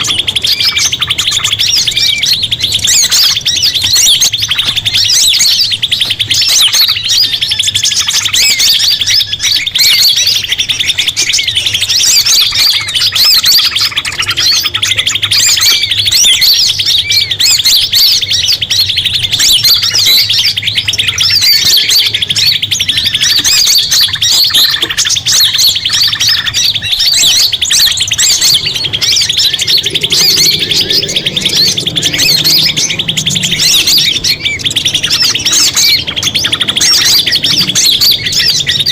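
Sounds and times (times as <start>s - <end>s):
faint low hum: 0.0s - 38.9s
songbirds chirping and trilling: 0.0s - 38.9s.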